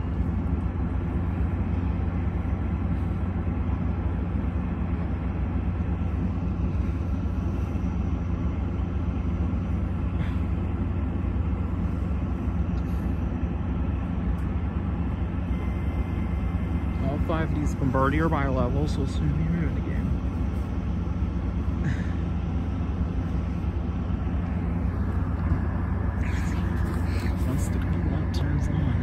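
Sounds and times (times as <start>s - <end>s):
diesel locomotive idling drone: 0.0s - 29.0s.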